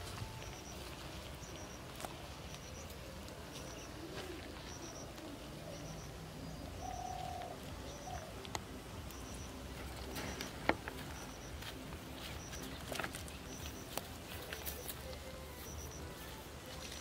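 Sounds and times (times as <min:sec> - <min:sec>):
dove cooing: 0:00.0 - 0:17.0
low outdoor background: 0:00.0 - 0:17.0.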